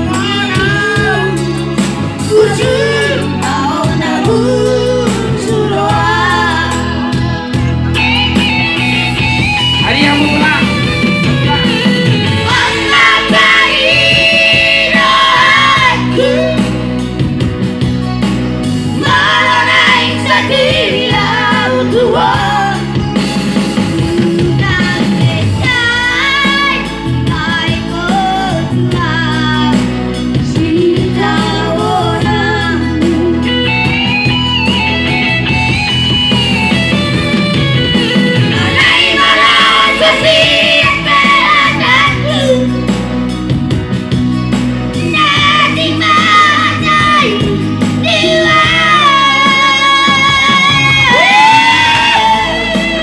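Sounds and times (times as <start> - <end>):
amplified instrumental backing with guitar: 0.0 - 53.0.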